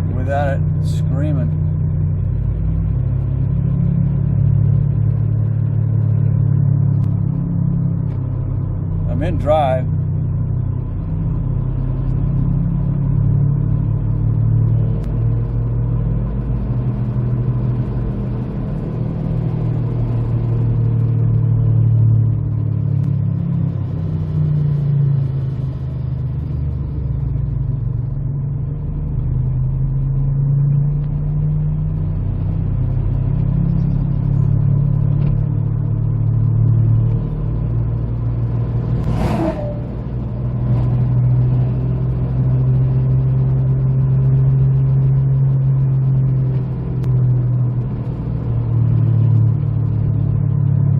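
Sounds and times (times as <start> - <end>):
car driving slowly: 0.0 - 50.9
wheel bearing humming drone: 0.0 - 50.9.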